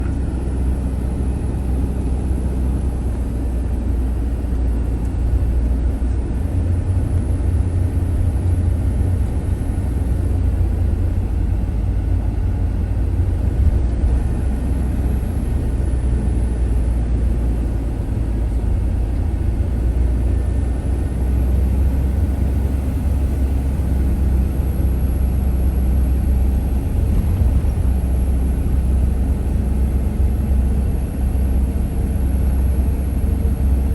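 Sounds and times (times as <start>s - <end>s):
vehicle driving through tunnel: 0.0s - 33.9s.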